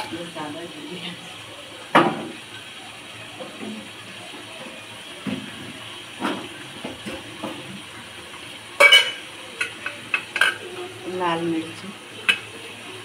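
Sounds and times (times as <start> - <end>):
food frying in a pot: 0.0 - 13.0.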